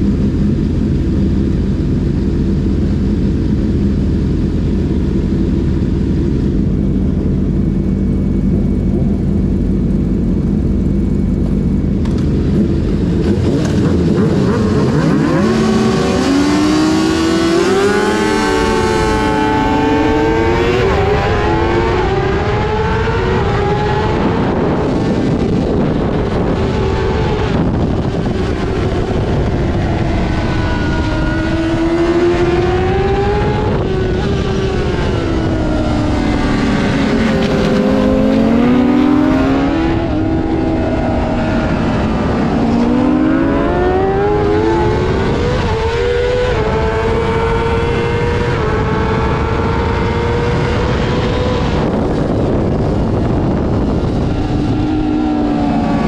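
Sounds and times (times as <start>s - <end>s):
racing motorcycle engine revving: 0.0s - 56.0s.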